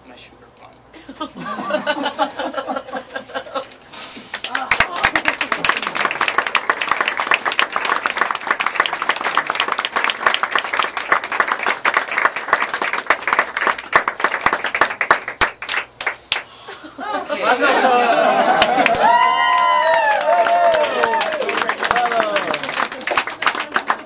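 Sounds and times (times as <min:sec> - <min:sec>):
group applauding: 0:03.6 - 0:16.5, 0:17.4 - 0:24.0.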